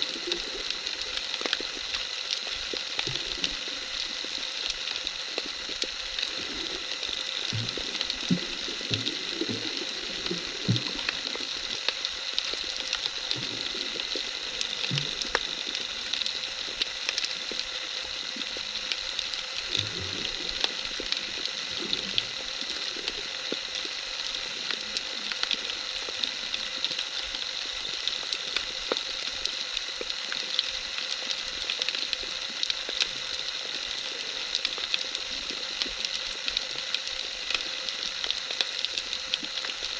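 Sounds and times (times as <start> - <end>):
underwater crackling hiss: 0.0 - 39.9.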